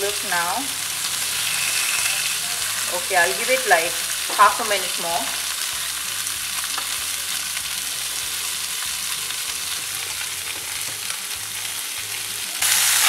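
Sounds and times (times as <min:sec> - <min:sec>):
fish sizzling in skillet: 0:00.0 - 0:13.0.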